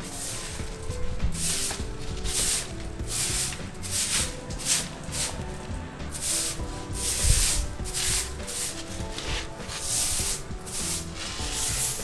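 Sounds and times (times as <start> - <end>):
stick broom sweeping cement floor: 0.0 - 12.0.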